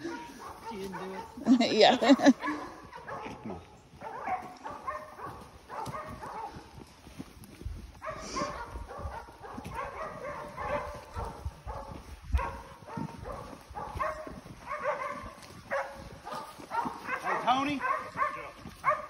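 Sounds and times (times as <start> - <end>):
dogs barking: 0.0 - 6.8, 7.8 - 19.0
footsteps on dirt trail: 0.0 - 19.0.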